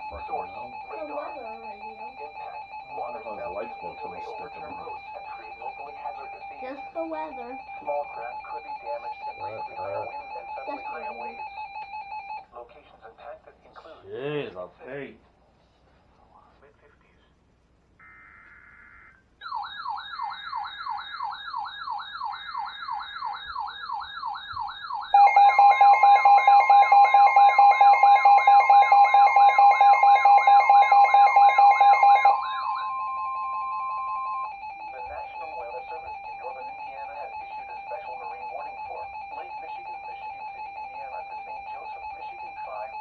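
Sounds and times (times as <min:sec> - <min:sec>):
loud steady attention tone: 0:00.0 - 0:12.4, 0:18.0 - 0:43.0
fast warbling siren: 0:00.0 - 0:12.5, 0:18.0 - 0:43.0
faint steady tones: 0:00.0 - 0:13.9, 0:17.9 - 0:43.0.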